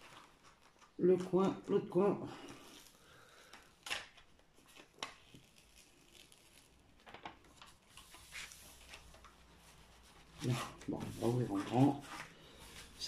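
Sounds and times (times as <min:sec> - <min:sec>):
plastic sheet rustling and crinkling: 0:00.0 - 0:13.0.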